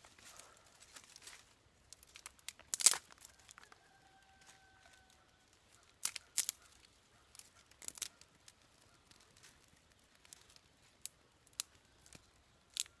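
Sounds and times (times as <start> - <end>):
twigs snapping and crackling: 0.0 - 13.0.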